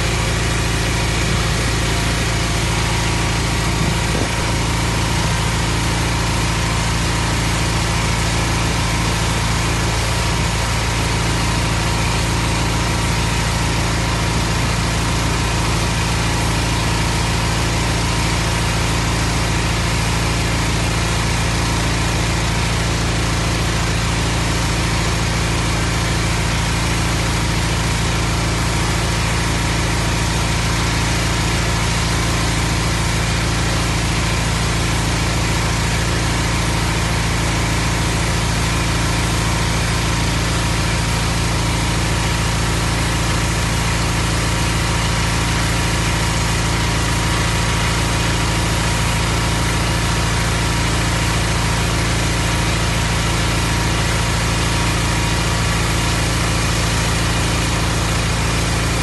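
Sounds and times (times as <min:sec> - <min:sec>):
engine running steadily: 0:00.0 - 0:59.0
high-pressure water jet hissing: 0:00.0 - 0:59.0.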